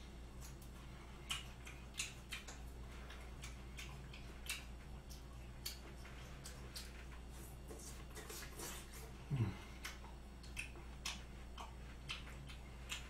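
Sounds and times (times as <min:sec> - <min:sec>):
person chewing: 0:00.0 - 0:13.0
steady low hum: 0:00.0 - 0:13.0
wet mouth clicks and smacks: 0:00.4 - 0:09.0, 0:09.8 - 0:13.0.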